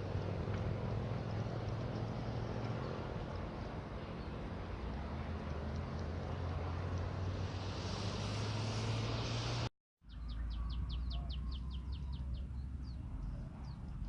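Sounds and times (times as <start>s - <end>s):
outdoor noise with low hum: 0.0s - 14.0s.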